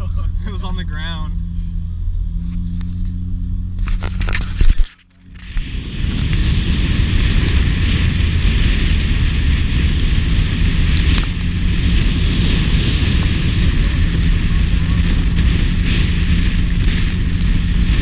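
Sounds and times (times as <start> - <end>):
car running noise: 0.0 - 18.0
faint engine hum: 0.0 - 18.0
wind buffeting microphone: 3.2 - 18.0.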